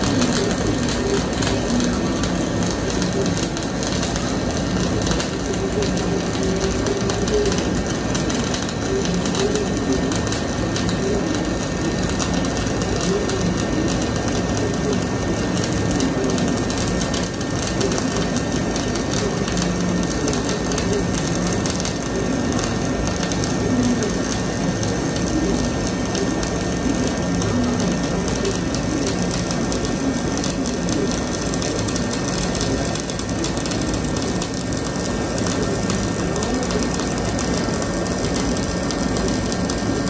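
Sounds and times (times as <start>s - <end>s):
welding arc crackling: 0.0s - 40.0s.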